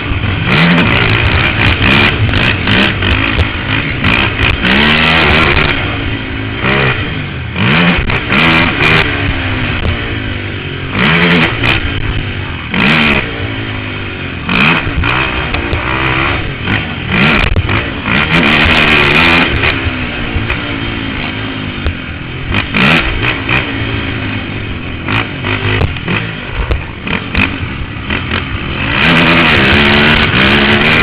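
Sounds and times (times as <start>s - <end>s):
atv engine revving: 0.0s - 31.0s.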